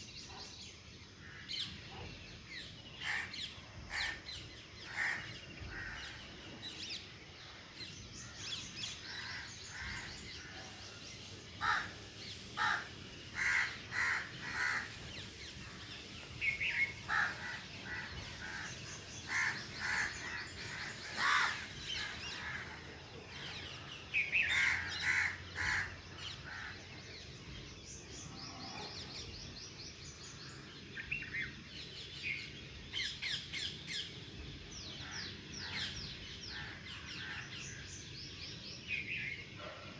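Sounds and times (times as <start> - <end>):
birds calling: 0.0 - 39.9
faint outdoor hum: 0.0 - 39.9.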